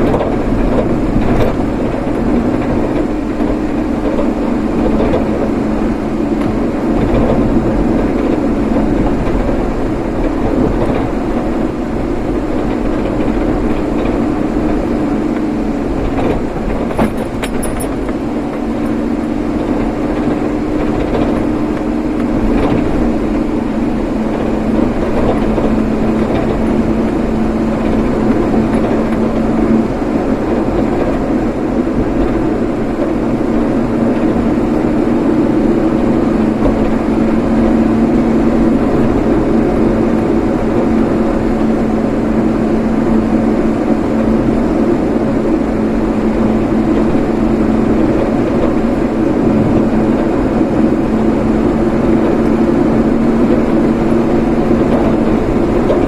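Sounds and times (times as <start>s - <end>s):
vehicle road and engine noise: 0.0s - 56.0s.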